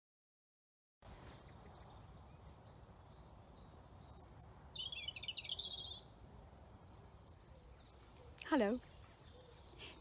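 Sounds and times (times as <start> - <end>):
songbirds singing: 1.1 - 10.0.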